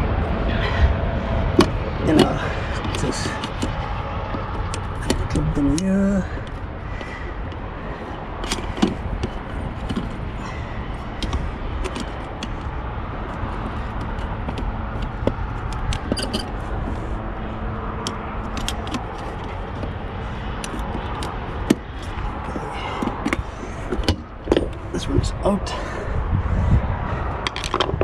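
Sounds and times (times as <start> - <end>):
steady background rumble: 0.0 - 28.0.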